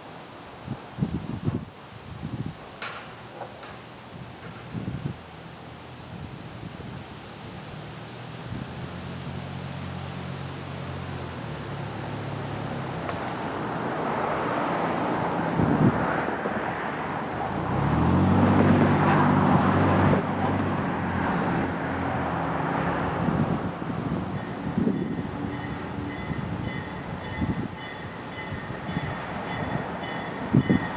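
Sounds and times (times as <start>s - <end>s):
road vehicles passing: 3.2s - 30.9s.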